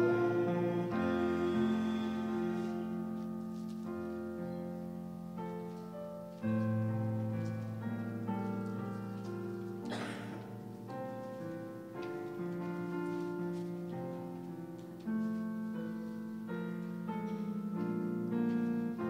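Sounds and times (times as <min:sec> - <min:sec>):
slow keyboard chords: 0:00.0 - 0:19.0.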